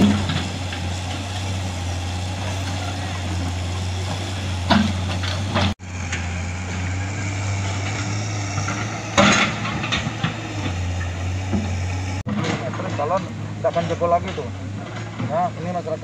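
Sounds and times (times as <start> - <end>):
excavator diesel engine humming: 0.0 - 16.0.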